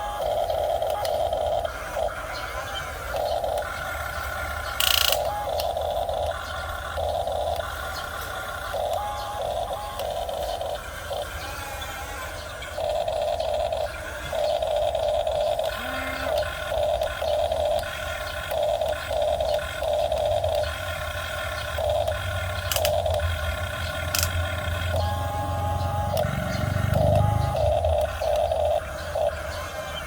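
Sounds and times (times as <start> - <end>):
electric motors whining: 0.0 - 30.0
steady low hum: 0.0 - 30.0.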